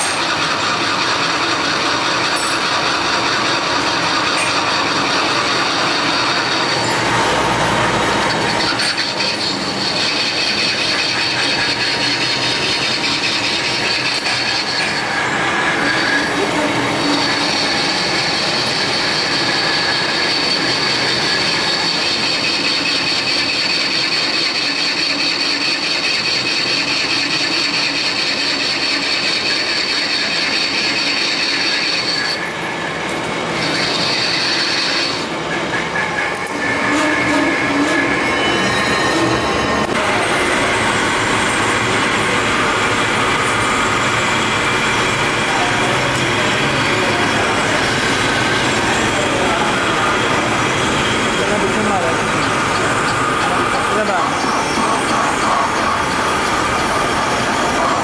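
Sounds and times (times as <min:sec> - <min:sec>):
lathe running: 0:00.0 - 0:58.0
tool whining on metal: 0:00.0 - 0:58.0.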